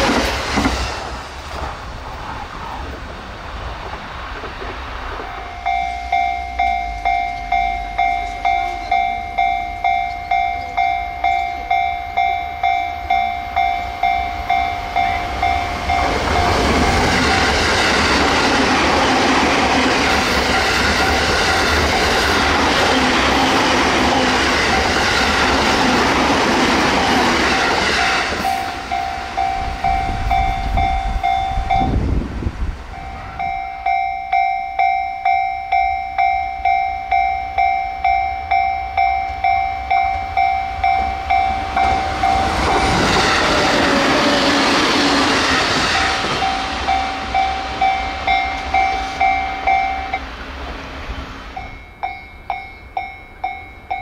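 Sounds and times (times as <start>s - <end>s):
electric train passing at speed: 0.0s - 54.0s
level crossing warning bell ringing: 5.2s - 32.2s, 32.9s - 50.4s, 51.5s - 54.0s.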